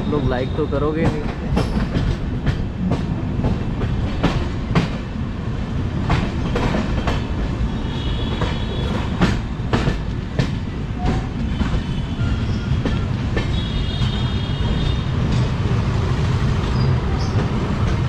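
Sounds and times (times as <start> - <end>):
train wheels rumbling on track: 0.0 - 18.0
wheels clacking over rail joints: 1.0 - 18.0.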